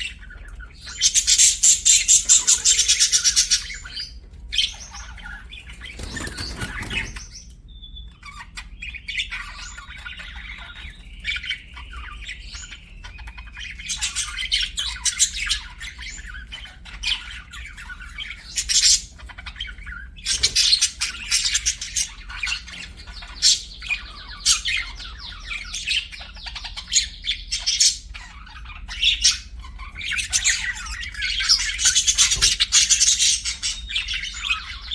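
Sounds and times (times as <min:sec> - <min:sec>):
budgerigars chirping and squawking: 0:00.0 - 0:34.9.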